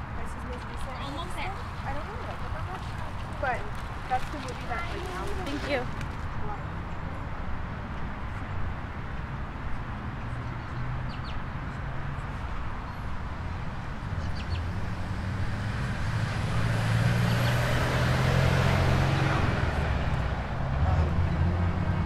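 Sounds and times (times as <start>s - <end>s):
traffic noise: 0.0s - 22.0s
vehicle engine hum: 0.0s - 22.0s.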